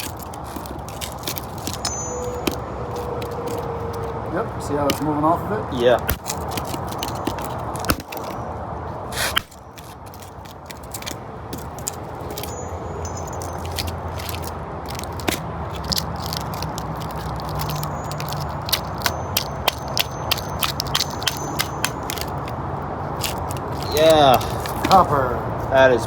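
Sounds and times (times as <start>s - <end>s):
clicks crackles and scraping: 0.0s - 25.7s.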